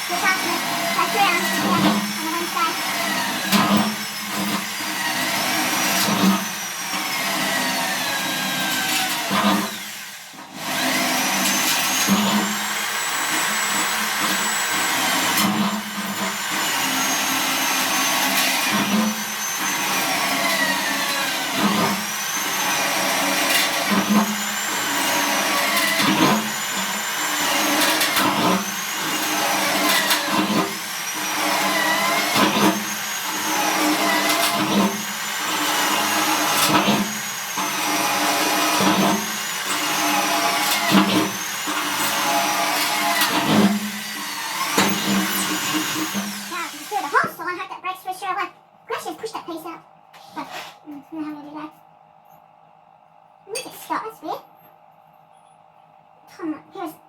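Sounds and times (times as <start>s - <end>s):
electric drill boring through steel: 0.0s - 47.4s.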